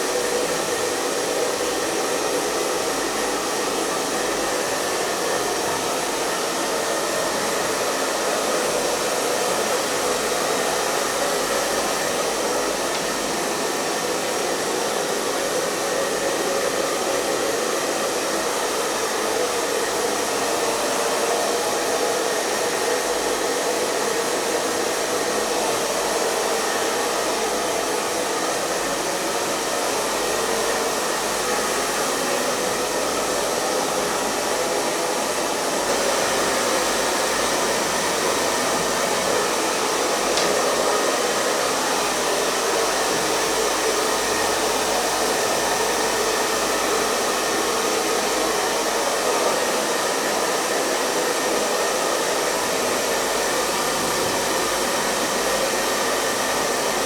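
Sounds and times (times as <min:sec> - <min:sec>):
hair dryer blowing air: 0:00.0 - 0:57.0.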